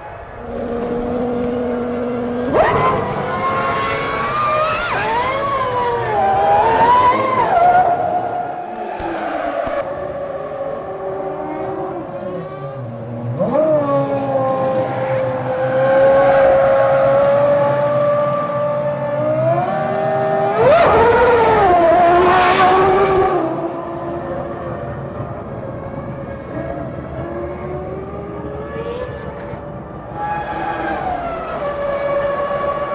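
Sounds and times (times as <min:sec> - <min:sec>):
racing car engines: 0:00.0 - 0:32.9.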